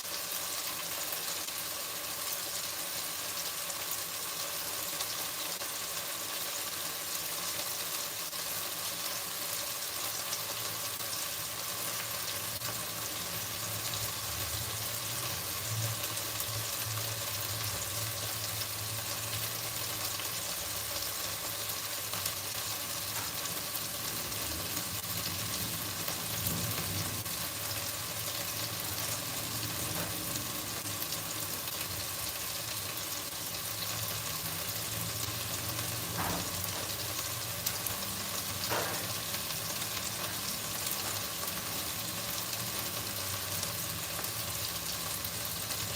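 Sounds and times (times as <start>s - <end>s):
food sizzling in oil: 0.0s - 45.9s.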